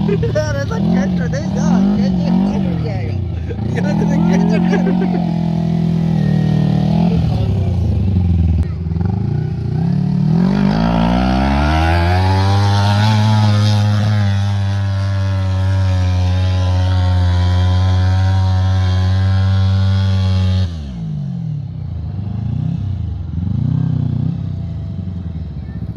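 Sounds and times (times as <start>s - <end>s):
go-kart engine revving: 0.0s - 25.9s.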